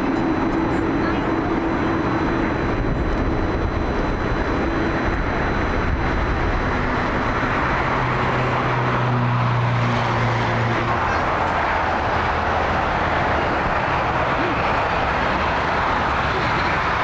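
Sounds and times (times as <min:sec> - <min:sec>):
low hum: 0:00.0 - 0:16.2
jet engines rushing: 0:00.0 - 0:17.0.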